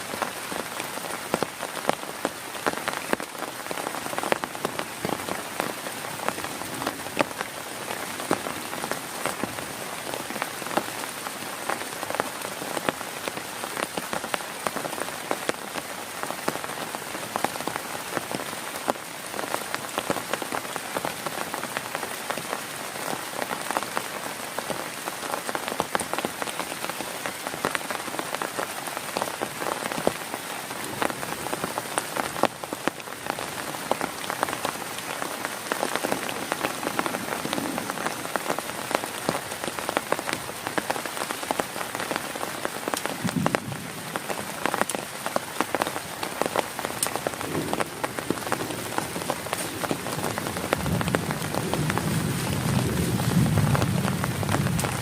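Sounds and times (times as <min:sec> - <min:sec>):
heavy rain pattering on a tent: 0:00.0 - 0:55.0.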